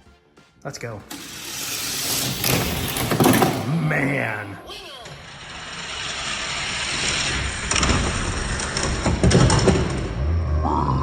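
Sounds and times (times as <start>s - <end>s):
toy cars rolling on plastic track: 1.1s - 10.2s.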